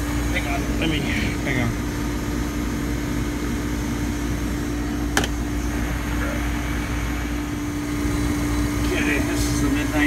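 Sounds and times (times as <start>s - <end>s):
refrigerator compressor humming: 0.0s - 10.0s.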